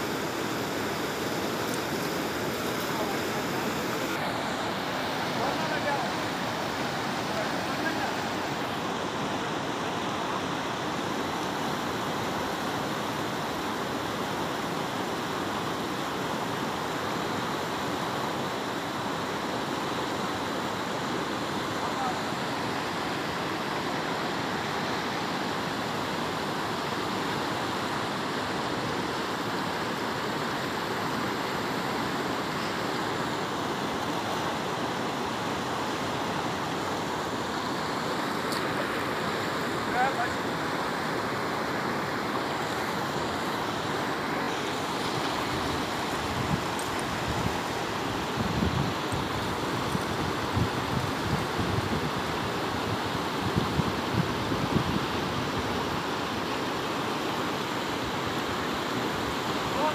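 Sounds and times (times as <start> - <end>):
river rushing through rapids: 0.0 - 59.9.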